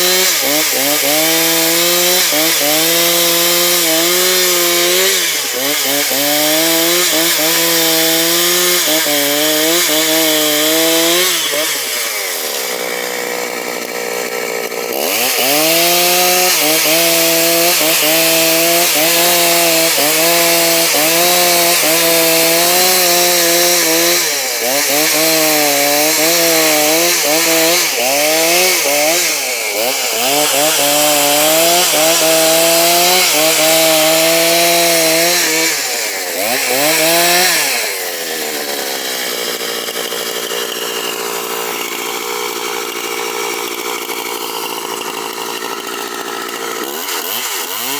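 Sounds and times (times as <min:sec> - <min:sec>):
chainsaw cutting through log: 0:00.0 - 0:47.9.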